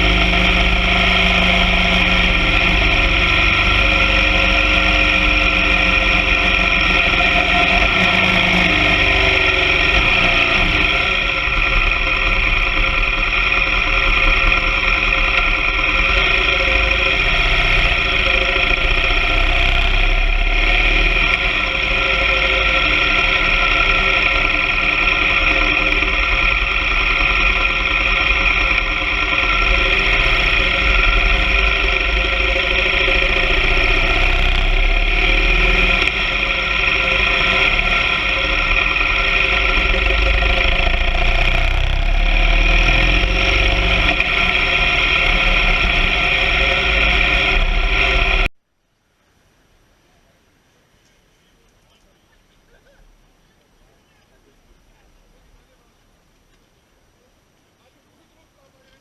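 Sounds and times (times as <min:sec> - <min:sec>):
motorcycle engine droning: 0:00.0 - 0:48.6
road and wind noise: 0:00.0 - 0:59.0.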